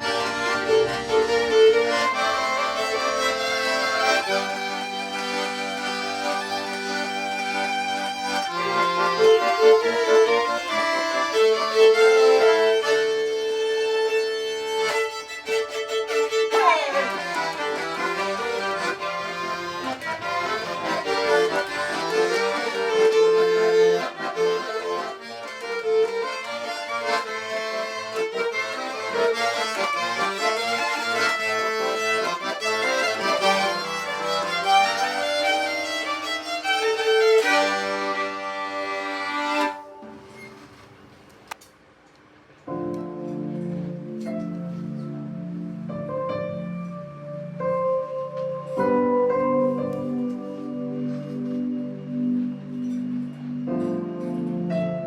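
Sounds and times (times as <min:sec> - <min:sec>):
acoustic duo playing instrumental music: 0:00.0 - 0:41.7, 0:42.7 - 0:55.0.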